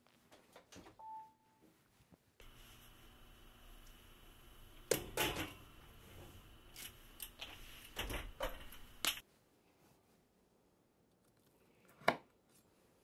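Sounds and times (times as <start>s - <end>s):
faint steady hum: 1.0s - 11.8s.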